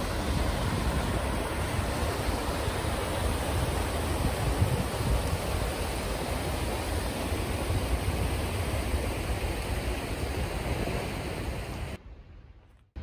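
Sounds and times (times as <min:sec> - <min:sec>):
river rushing over rocks: 0:00.0 - 0:12.0
wind rumble on microphone: 0:00.0 - 0:12.0.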